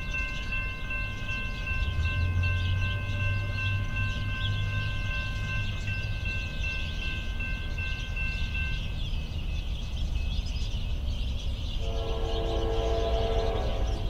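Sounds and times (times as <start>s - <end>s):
crossing warning bell ringing: 0.0s - 11.1s, 11.8s - 14.0s
diesel freight train rumble: 0.0s - 14.0s.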